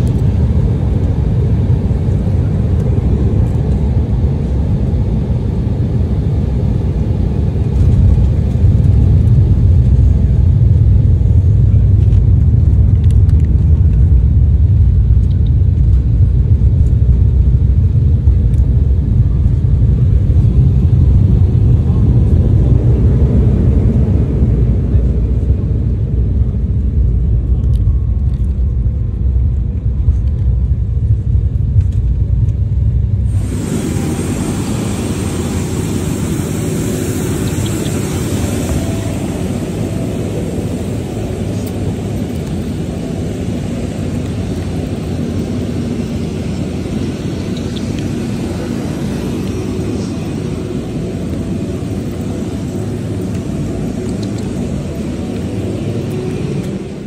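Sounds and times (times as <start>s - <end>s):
aircraft engines roaring with whine: 0.0s - 57.0s
airliner cabin rumble: 0.0s - 57.0s.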